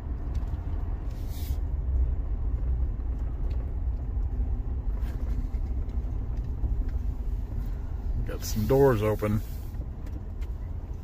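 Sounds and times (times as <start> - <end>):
vehicle rumbling on gravel: 0.0 - 11.0.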